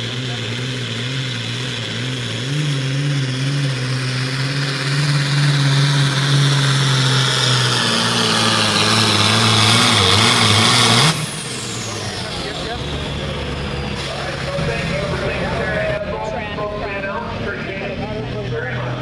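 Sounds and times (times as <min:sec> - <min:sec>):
tractor diesel engine at full throttle: 0:00.0 - 0:19.0.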